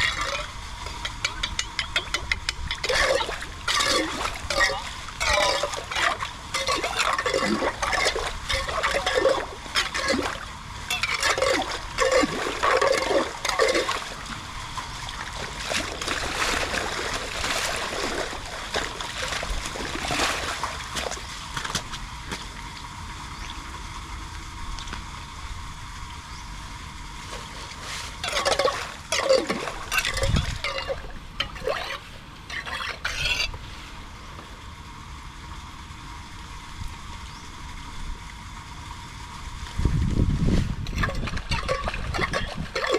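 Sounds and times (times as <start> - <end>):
water trickling and splashing: 0.0 - 23.1, 27.2 - 33.6, 37.7 - 42.9.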